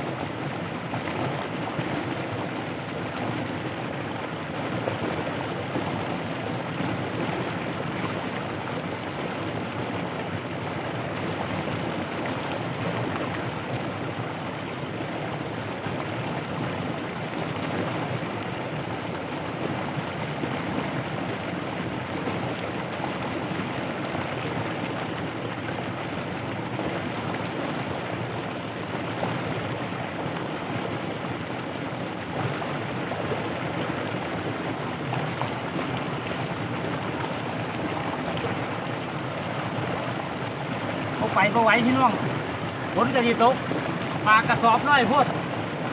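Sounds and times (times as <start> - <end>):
floodwater rushing: 0.0 - 45.9.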